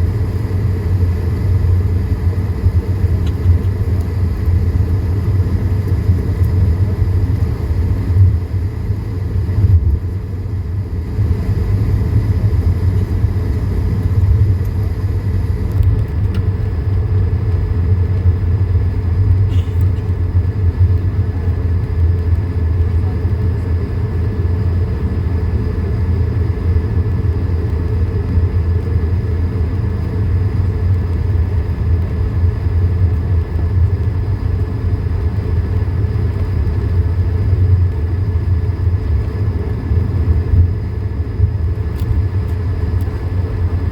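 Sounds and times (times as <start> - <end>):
aircraft cabin rumble: 0.0 - 43.9
faint engine whining tones: 0.0 - 43.9.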